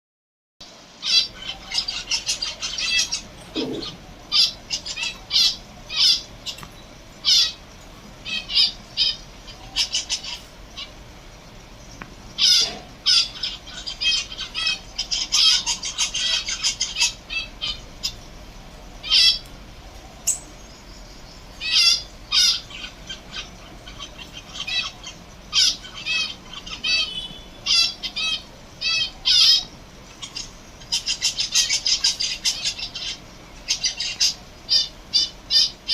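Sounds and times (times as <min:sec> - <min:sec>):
finches chirping: 0:00.7 - 0:35.9.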